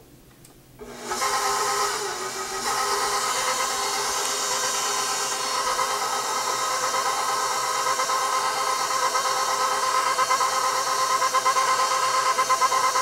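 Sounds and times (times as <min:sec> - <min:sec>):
stand mixer motor whining: 0:00.8 - 0:13.0.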